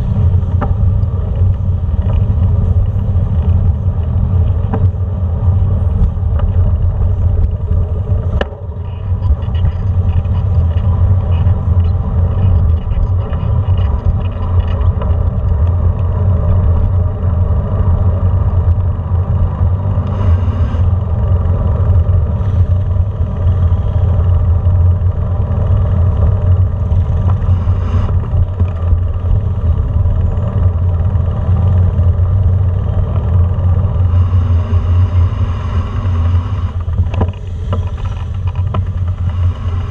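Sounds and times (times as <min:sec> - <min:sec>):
vehicle rumbling on brick street: 0:00.0 - 0:39.9.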